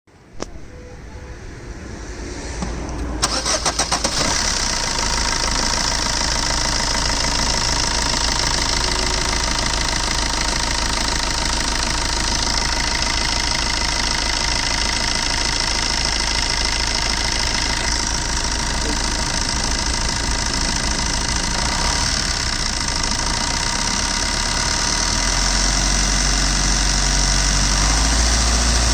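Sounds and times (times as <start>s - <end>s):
diesel engine cranking and idling: 0.3s - 28.9s.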